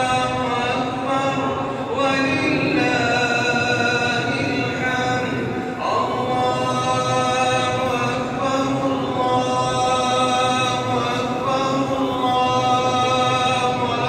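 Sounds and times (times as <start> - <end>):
devotional chanting voices: 0.0 - 14.0.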